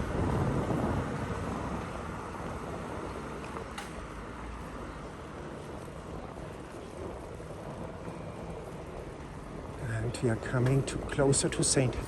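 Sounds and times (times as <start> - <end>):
vehicle and road noise: 0.0 - 12.0
wind buffeting microphone: 0.0 - 12.0.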